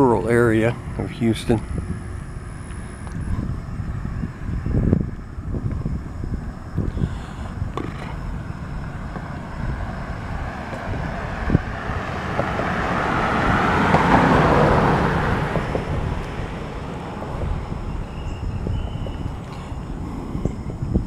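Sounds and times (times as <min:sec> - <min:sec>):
car passing: 0:00.0 - 0:21.0
wind rumble on microphone: 0:00.0 - 0:21.0.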